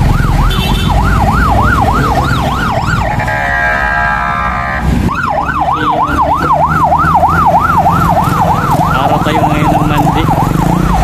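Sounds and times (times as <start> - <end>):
emergency siren yelping: 0.0 - 11.0
road traffic rumble: 0.0 - 11.0.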